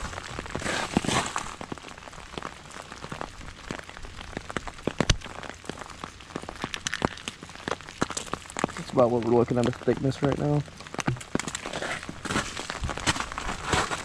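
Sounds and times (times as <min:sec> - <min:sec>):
freezing rain pattering on ice: 0:00.0 - 0:14.0.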